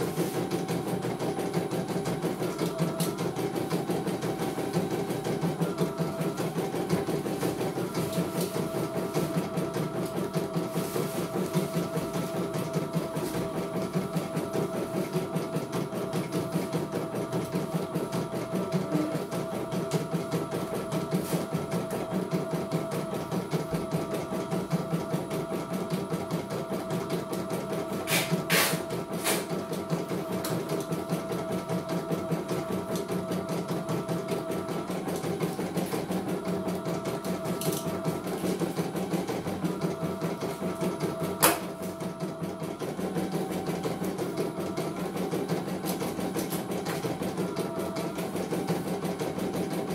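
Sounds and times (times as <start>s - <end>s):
embroidery machine stitching: 0.0s - 49.9s.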